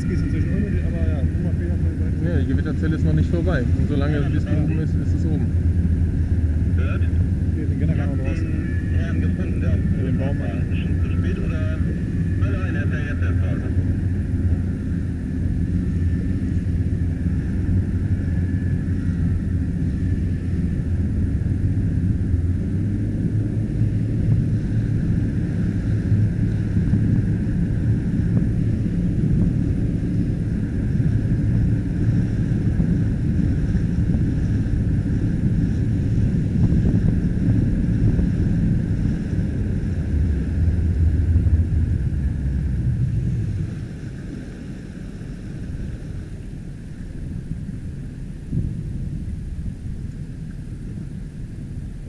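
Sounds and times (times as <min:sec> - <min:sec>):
outboard motor running: 0:00.0 - 0:52.0
wind buffeting microphone: 0:00.0 - 0:52.0.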